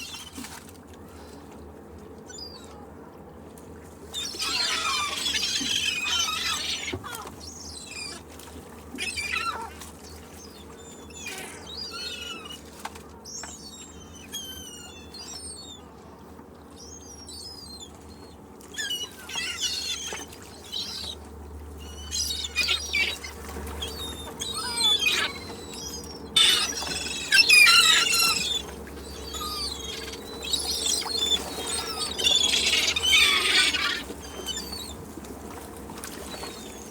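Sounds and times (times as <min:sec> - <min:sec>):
seagulls calling: 0:04.1 - 0:36.9.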